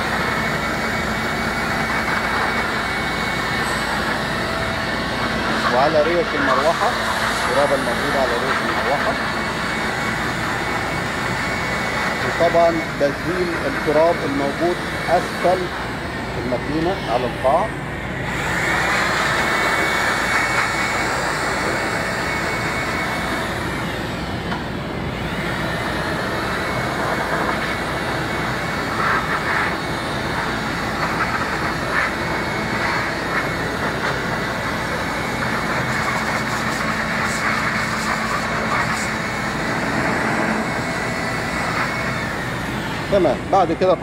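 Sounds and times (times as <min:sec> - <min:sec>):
electric air blower running: 0:00.0 - 0:44.0.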